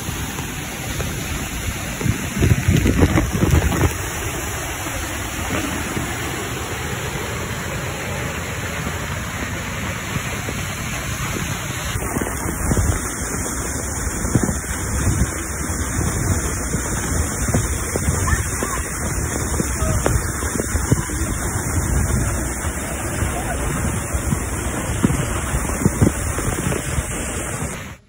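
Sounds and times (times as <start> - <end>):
heavy water splashes: 0.0 - 28.0
waterfall rushing: 0.0 - 28.0.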